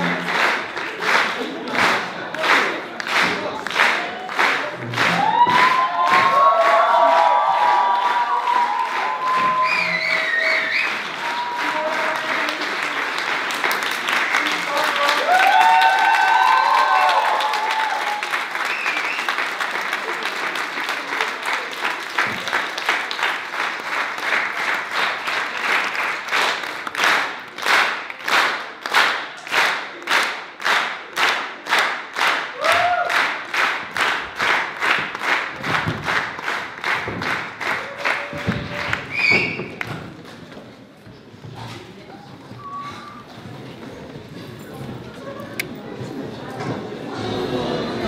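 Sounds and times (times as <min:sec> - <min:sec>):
audience applauding: 0:00.0 - 0:40.0.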